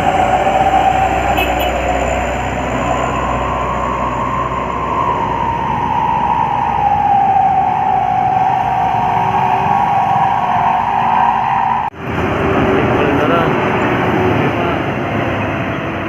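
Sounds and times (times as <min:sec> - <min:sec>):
high whine dropping in pitch: 0:00.0 - 0:14.3
heavy vehicle engine and road noise: 0:00.0 - 0:16.0.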